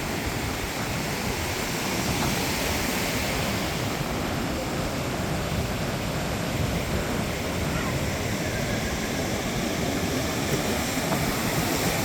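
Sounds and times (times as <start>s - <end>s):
ocean surf: 0.0s - 12.0s
wind on microphone: 0.0s - 12.0s.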